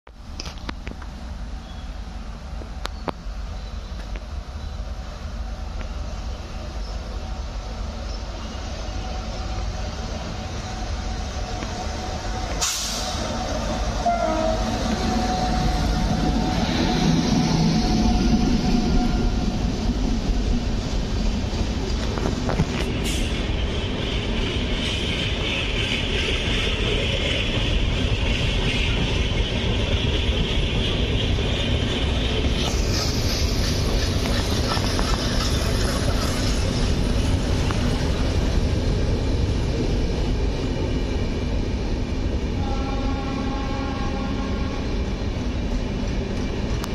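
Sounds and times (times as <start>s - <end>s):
train wheels rumbling on rails: 0.1s - 46.9s.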